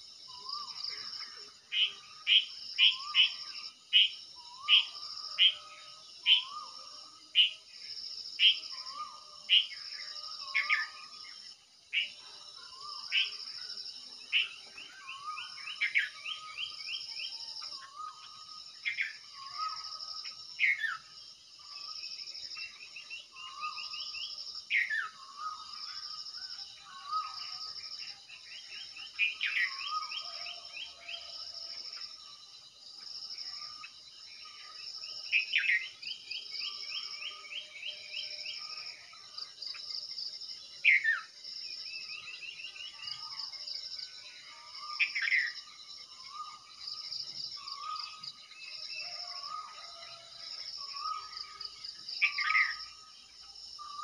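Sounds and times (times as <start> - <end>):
high pulsing insect call: 0.0 - 54.0.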